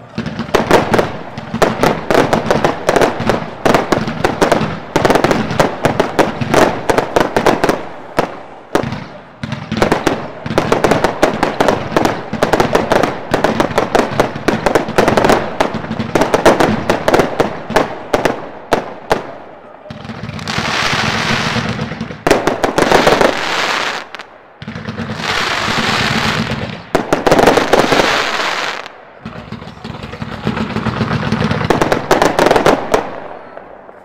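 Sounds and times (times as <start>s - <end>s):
fireworks bursting in rapid volleys: 0.0s - 34.0s.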